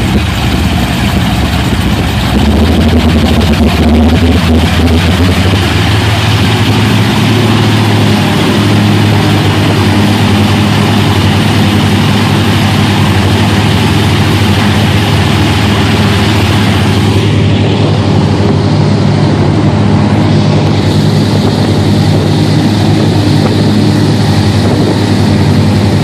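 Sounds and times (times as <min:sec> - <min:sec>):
churning wake water: 0:00.0 - 0:26.0
powerboat engines running: 0:00.0 - 0:26.0
wind rushing: 0:02.6 - 0:26.0.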